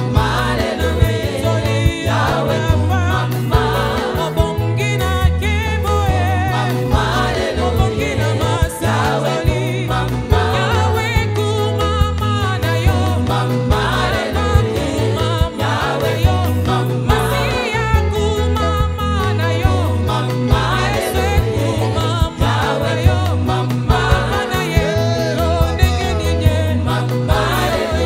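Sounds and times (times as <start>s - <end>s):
band playing: 0.0s - 28.0s
bass line: 0.0s - 28.0s
women singing: 0.0s - 28.0s.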